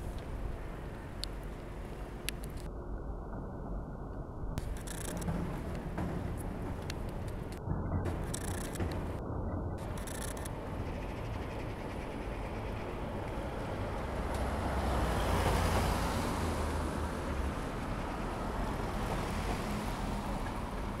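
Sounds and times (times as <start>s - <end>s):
outdoor rumble and hiss: 0.0s - 21.0s.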